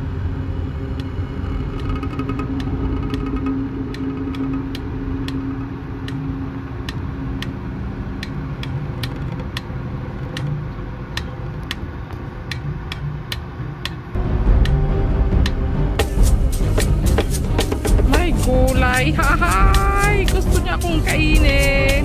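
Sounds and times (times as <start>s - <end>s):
car engine and road noise: 0.0s - 22.0s
regular ticking: 0.3s - 22.0s.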